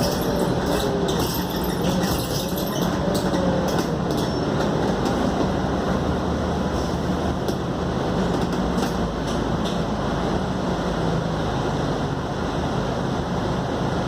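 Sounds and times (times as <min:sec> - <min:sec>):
bus engine drone: 0:00.0 - 0:14.0
road noise: 0:00.0 - 0:14.0.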